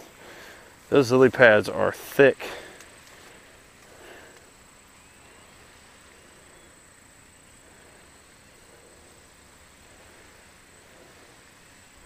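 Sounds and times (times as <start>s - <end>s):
light background hiss: 0.0s - 12.0s
high-pitched insect drone: 0.1s - 12.0s.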